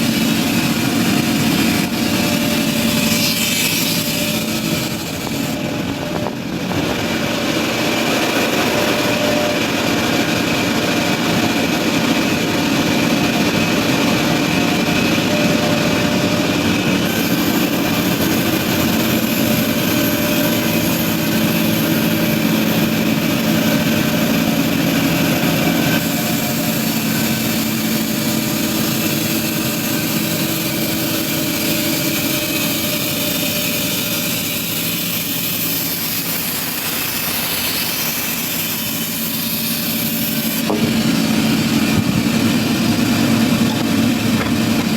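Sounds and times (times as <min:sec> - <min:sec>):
wood-processing machine engine drone: 0:00.0 - 0:44.9.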